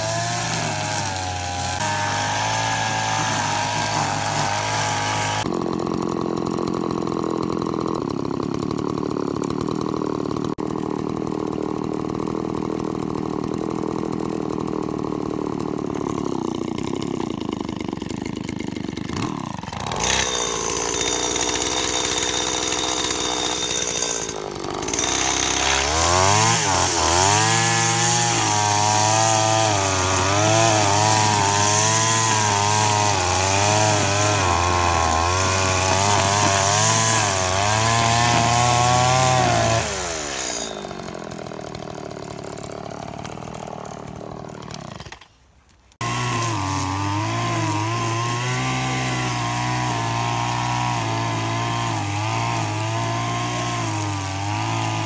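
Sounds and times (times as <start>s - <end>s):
brushcutter engine revving: 0.0s - 45.2s, 45.9s - 55.0s.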